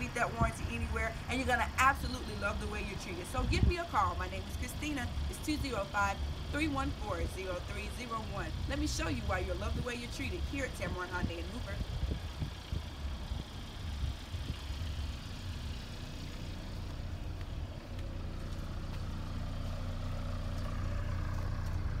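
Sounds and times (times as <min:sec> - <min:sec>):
car engine idling: 0:00.0 - 0:22.0
low rumbles: 0:00.0 - 0:22.0.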